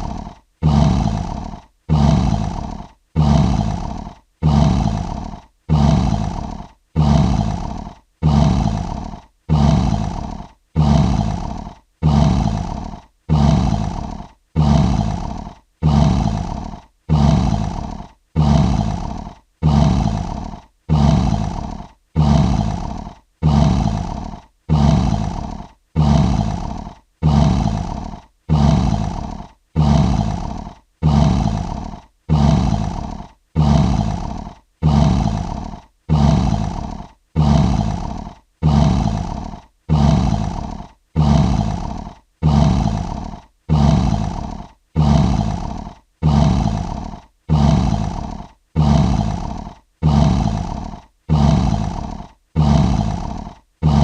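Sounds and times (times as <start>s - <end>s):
lion roaring: 0.0s - 54.0s.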